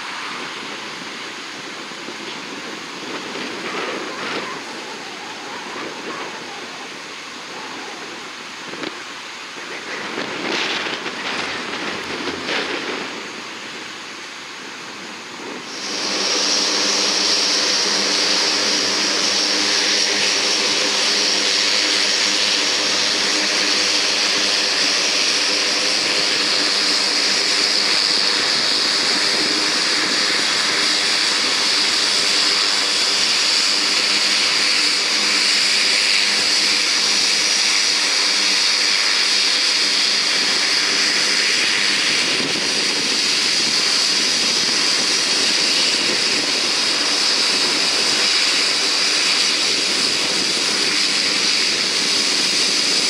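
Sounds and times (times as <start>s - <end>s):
high turbine hiss: 0.0s - 53.0s
propeller drone: 0.0s - 53.0s.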